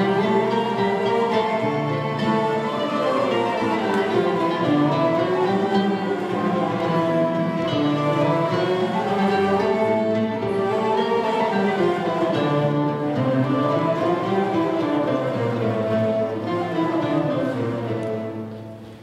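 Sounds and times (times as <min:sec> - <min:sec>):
string ensemble playing melody: 0:00.0 - 0:19.0.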